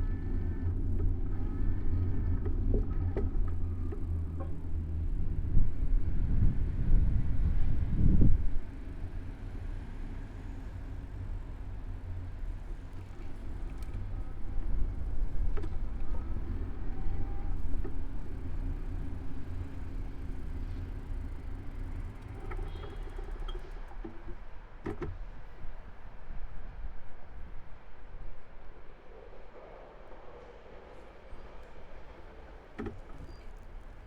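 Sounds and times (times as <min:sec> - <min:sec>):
faint street sounds: 0:00.0 - 0:34.0
rumble of wind and road: 0:00.0 - 0:34.0.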